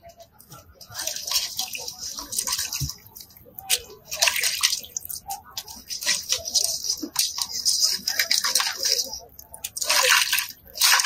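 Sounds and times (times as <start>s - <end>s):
water sloshing in metal bowl: 0.0s - 11.0s.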